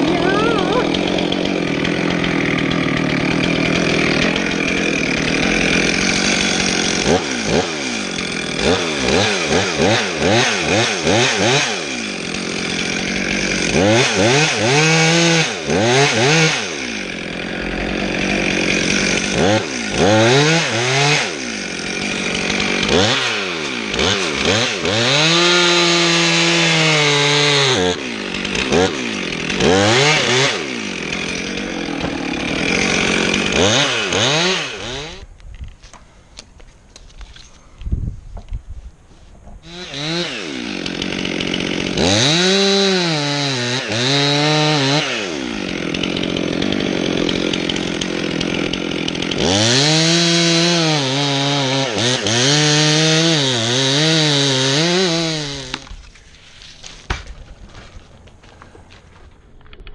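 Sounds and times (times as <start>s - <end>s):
chainsaw cutting wood: 0.0s - 38.6s, 39.5s - 59.9s.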